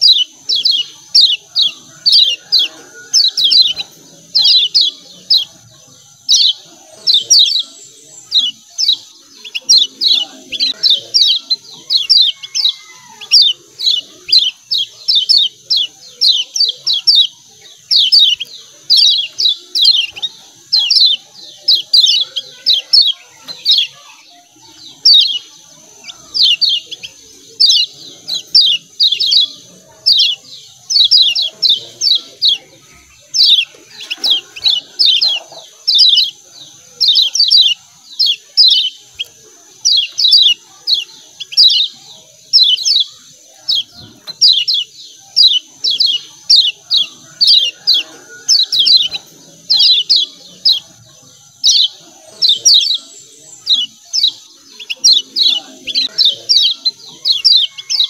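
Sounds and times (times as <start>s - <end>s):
bird chipping calls: 0.0s - 58.0s.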